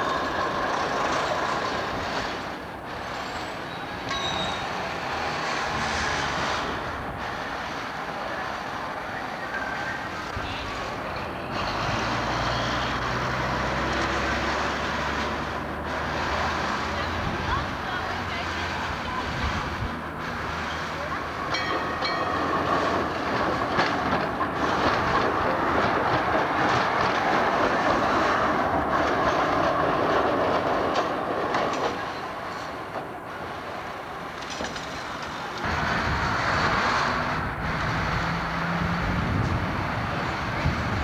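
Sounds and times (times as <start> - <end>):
tram wheels clattering on rails: 0.0 - 41.0.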